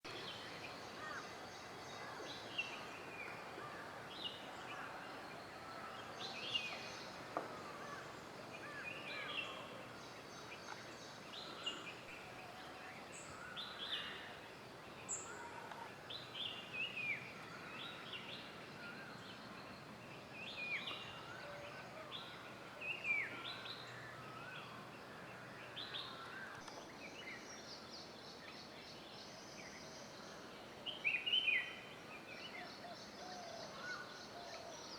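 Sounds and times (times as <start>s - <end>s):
faint background hiss: 0.0s - 34.9s.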